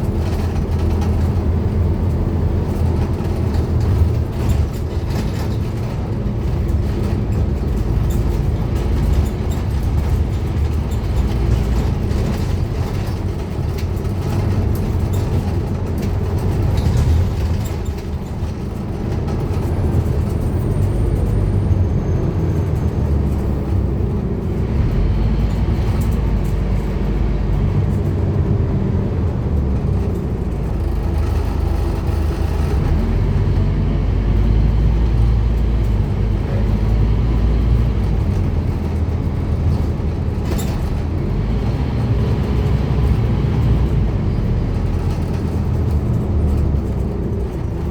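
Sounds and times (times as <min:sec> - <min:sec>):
bus diesel engine running: 0:00.0 - 0:47.9
road and body noise: 0:00.0 - 0:47.9.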